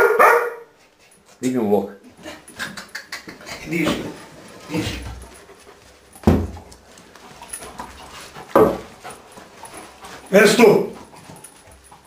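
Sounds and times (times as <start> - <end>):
dog panting: 2.2 - 12.0.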